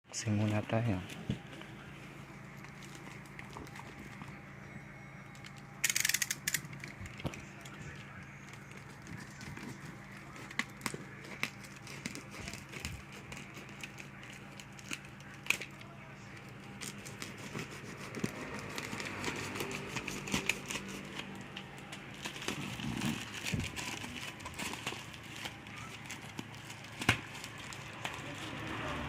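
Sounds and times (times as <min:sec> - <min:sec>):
packaging crinkling and rustling: 0:00.2 - 0:04.7, 0:05.3 - 0:29.0.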